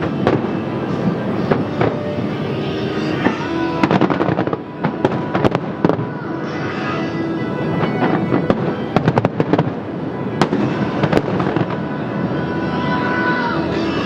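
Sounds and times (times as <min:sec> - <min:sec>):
fireworks bangs and crackles: 0:00.0 - 0:14.0
music: 0:00.0 - 0:14.0.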